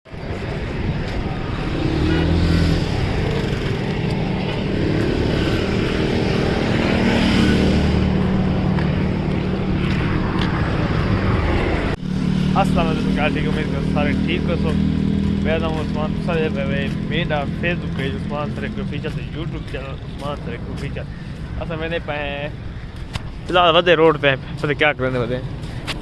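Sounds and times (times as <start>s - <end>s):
road noise: 0.1s - 26.0s
vehicle engine running: 0.1s - 26.0s.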